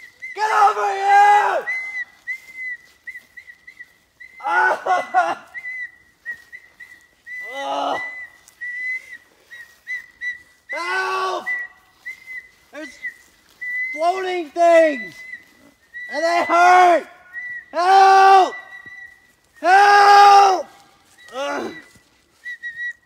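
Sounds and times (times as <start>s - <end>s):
long wavering wail-like calls: 0.0s - 23.0s.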